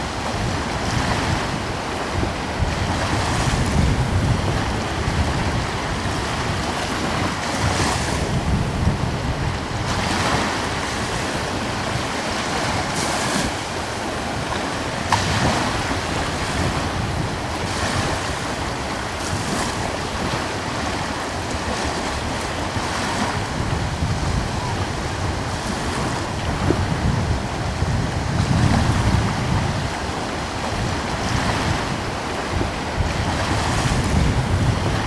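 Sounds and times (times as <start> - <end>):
sea waves breaking on shore: 0.0 - 35.0
wind buffeting microphone: 0.0 - 35.0.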